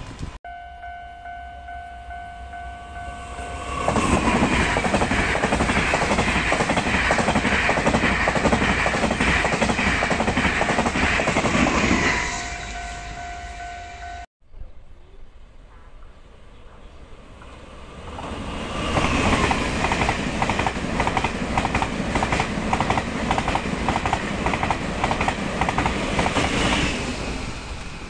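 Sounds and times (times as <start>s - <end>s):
train passing at high speed: 0.0s - 14.3s, 16.0s - 28.0s.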